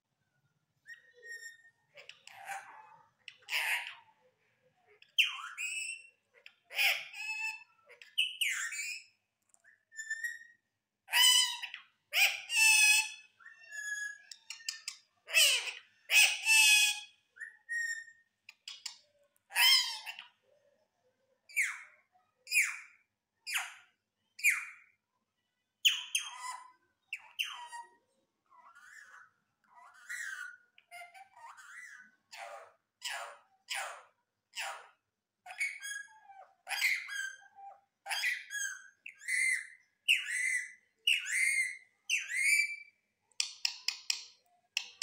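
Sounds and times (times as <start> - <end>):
parakeet talking in squeaky voice: 0.9 - 4.2, 4.8 - 20.4, 21.5 - 24.9, 25.8 - 45.0.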